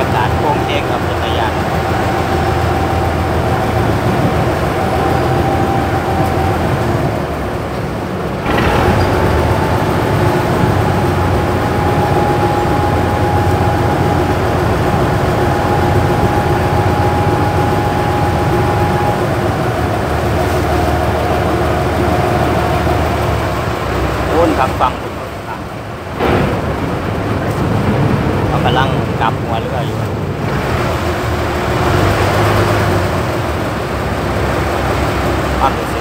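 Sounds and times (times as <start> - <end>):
ferry engine humming: 0.0 - 36.0
wide rushing noise: 0.0 - 36.0.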